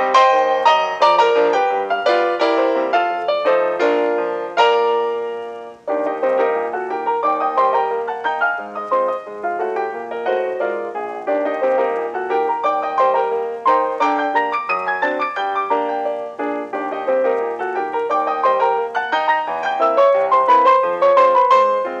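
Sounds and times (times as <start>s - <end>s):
ragtime piano music: 0.0s - 22.0s.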